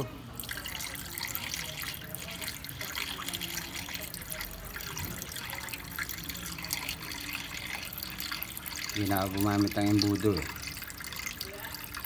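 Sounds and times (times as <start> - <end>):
liquid pouring and trickling: 0.0 - 12.0.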